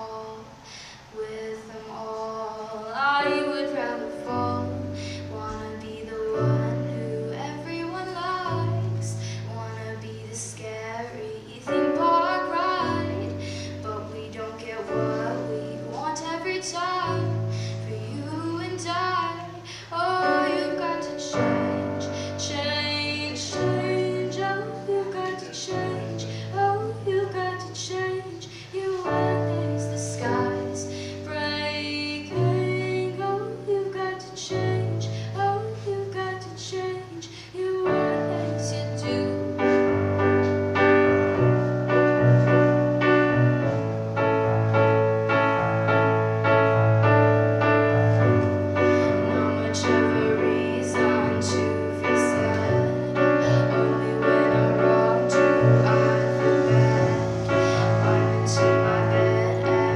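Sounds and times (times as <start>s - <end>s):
woman singing: 0.0s - 43.7s, 44.7s - 59.9s
held piano chords on keyboard: 0.0s - 59.9s.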